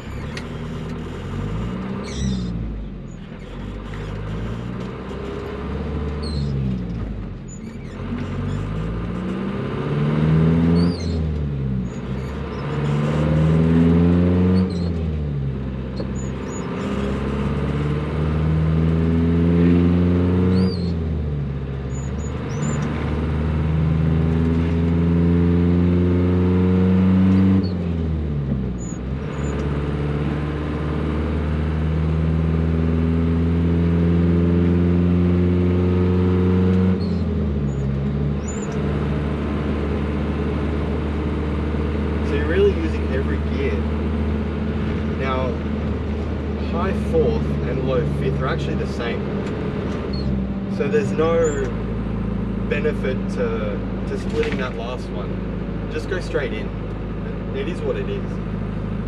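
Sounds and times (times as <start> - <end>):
truck engine accelerating: 0.0 - 59.0.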